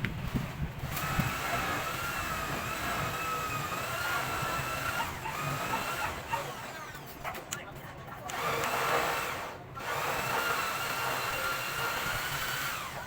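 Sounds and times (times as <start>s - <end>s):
small electric motor whining: 0.9s - 7.2s, 8.3s - 13.0s.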